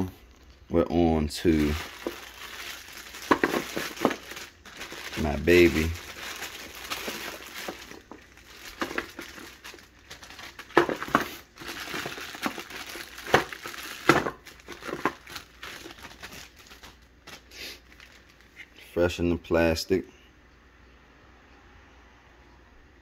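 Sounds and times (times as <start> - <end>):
plastic bag crinkling: 0.2 - 18.8.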